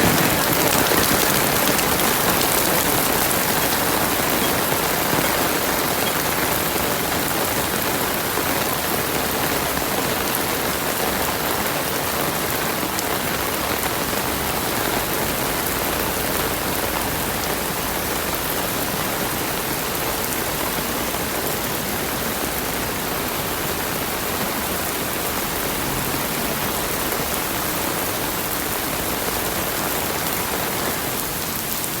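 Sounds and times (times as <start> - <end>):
rain falling steadily: 0.0 - 32.0.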